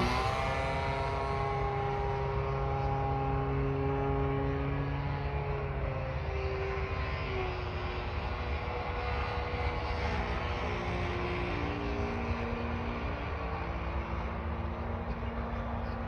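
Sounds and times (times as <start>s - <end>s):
model plane engine droning: 0.0s - 16.0s.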